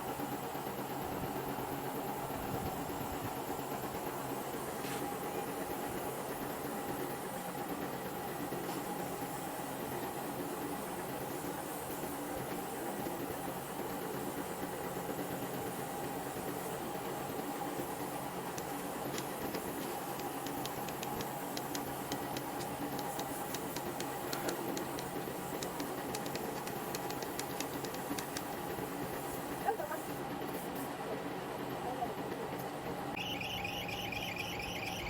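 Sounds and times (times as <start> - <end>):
compressor humming: 0.0 - 35.0.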